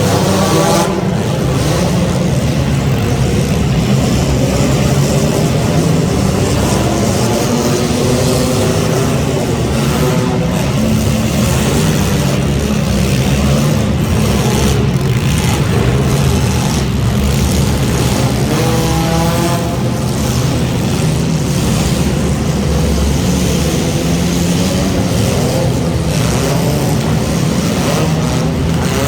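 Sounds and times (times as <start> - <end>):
race car engines: 0.0 - 29.0.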